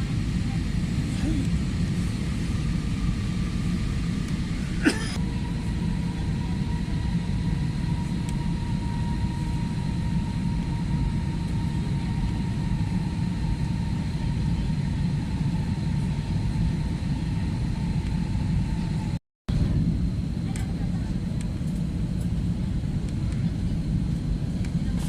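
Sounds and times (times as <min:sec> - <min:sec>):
aircraft engine and airflow rumble: 0:00.0 - 0:25.0
thin steady whine: 0:00.0 - 0:25.0.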